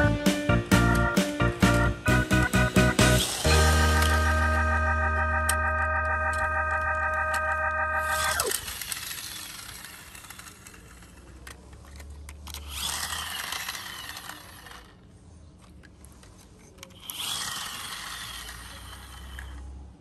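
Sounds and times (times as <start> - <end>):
toy truck wheels grinding on concrete: 2.1 - 20.0.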